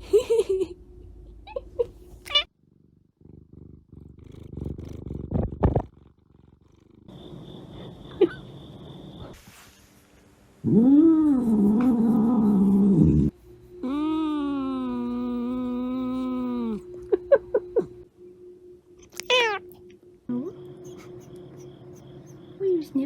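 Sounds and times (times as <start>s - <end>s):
low rhythmic purr: 2.1s - 9.4s, 10.6s - 23.0s.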